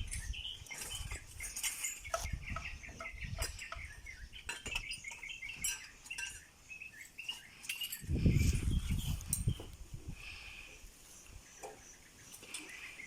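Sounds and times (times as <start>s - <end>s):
birds clucking and chirping: 0.0s - 13.0s.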